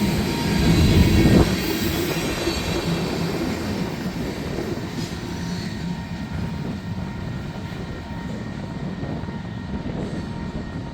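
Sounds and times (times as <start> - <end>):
freight train rumbling past: 0.0 - 10.9.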